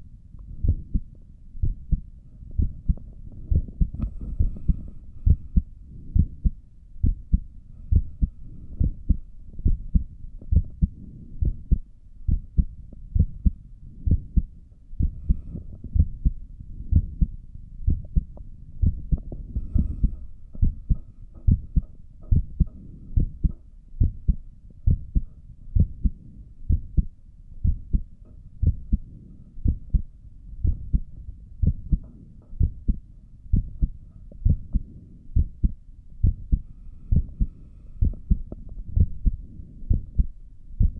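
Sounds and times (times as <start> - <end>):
heartbeat through stethoscope: 0.4 - 40.9.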